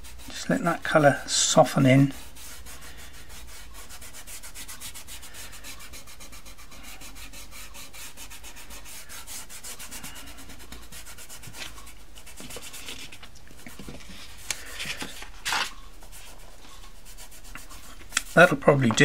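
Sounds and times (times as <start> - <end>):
fingertip rubbing pastel on paper: 0.0 - 13.2, 15.9 - 18.7.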